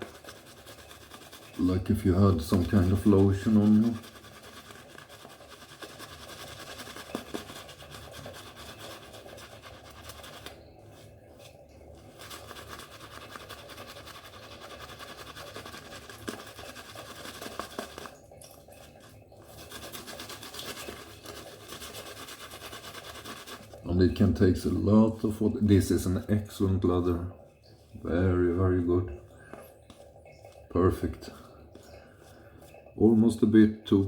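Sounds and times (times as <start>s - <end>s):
shaving brush scratching lather: 0.0s - 30.7s.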